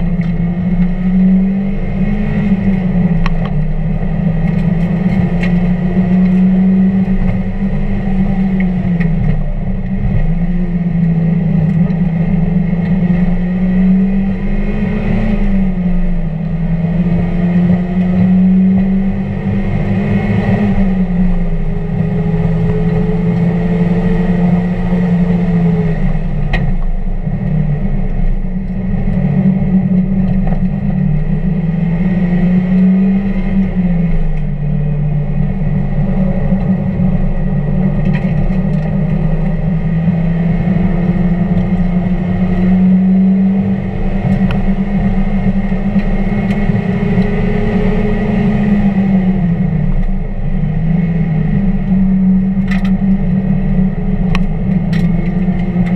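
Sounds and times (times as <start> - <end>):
car engine revving hard: 0.0 - 28.0, 28.8 - 55.9.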